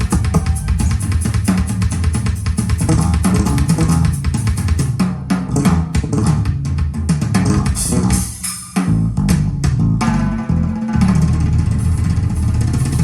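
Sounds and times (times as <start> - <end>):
bass guitar: 0.0 - 13.0
drums: 0.0 - 13.0.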